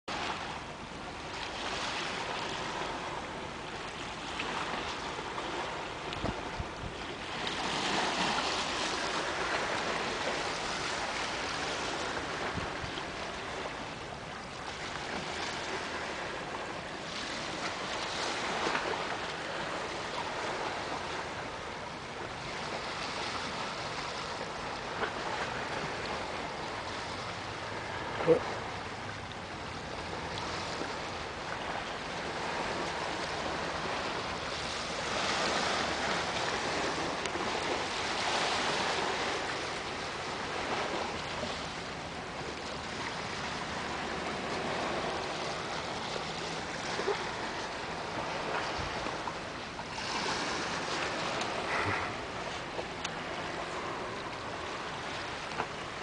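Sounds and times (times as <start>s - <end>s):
small waves on rocky shore: 0.1s - 56.0s.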